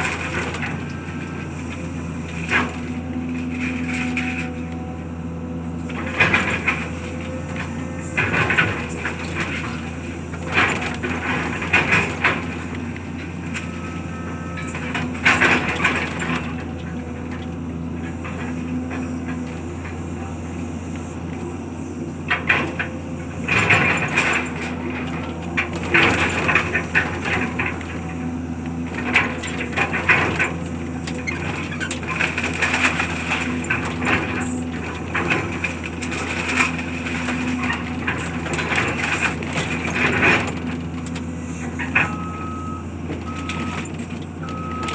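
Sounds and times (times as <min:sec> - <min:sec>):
heavy machine engine drone: 0:00.0 - 0:44.9
debris being crushed: 0:06.0 - 0:42.2.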